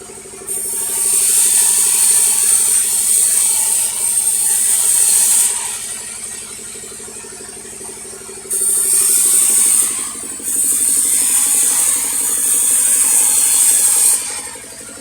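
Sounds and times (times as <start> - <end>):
saw blade cutting log: 0.0 - 15.0
sawmill mechanical chatter: 0.0 - 15.0.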